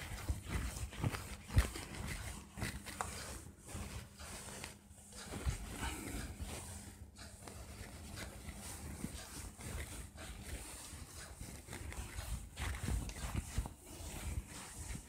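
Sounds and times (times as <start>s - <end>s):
duster scrubbing whiteboard: 0.0s - 15.0s.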